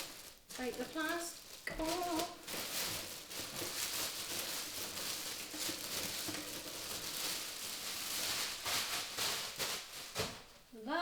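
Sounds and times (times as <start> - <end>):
plastic wrapping crinkling: 0.0 - 10.8.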